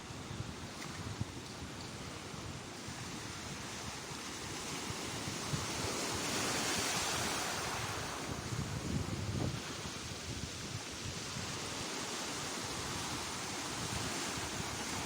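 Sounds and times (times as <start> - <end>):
sea waves breaking on shore: 0.0 - 15.0
wind buffeting microphone: 0.1 - 15.0.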